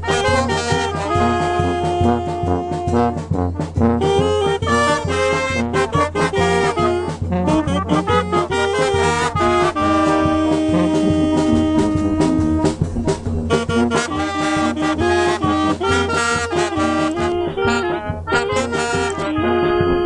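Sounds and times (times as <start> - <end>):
brass band playing: 0.0 - 20.0
trumpet playing: 0.0 - 20.0.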